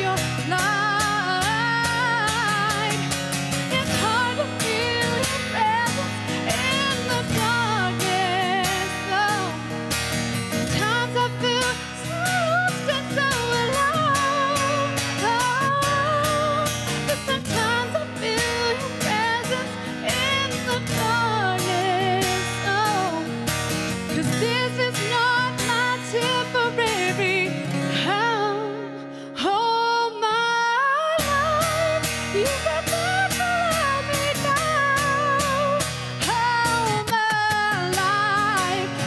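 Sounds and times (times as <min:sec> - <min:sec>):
guitar accompaniment: 0:00.0 - 0:39.0
woman singing: 0:00.0 - 0:39.0.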